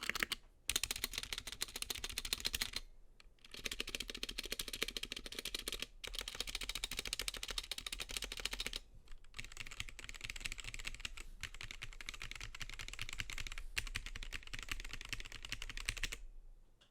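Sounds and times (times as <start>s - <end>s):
fast mechanical keyboard typing: 0.0s - 16.2s.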